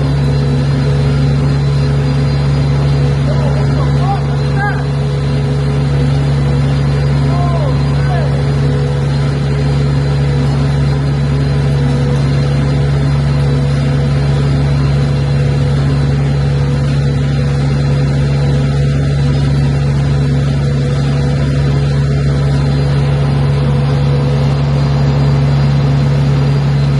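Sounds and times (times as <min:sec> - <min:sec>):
low engine drone: 0:00.0 - 0:26.9.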